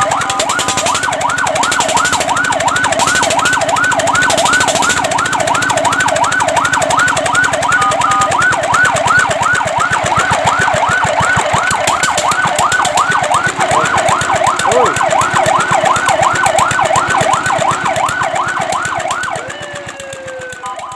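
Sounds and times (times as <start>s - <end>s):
fire truck siren yelp: 0.0s - 20.9s.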